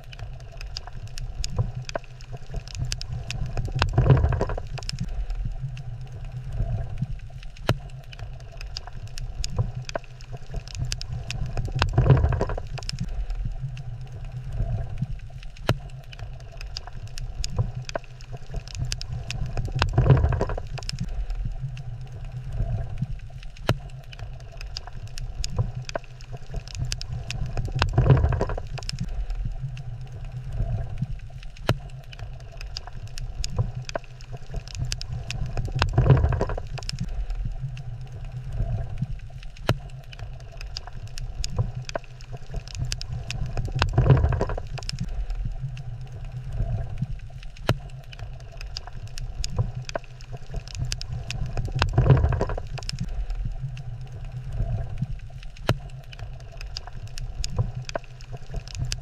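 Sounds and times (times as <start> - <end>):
low underwater rumble: 0.0 - 59.0.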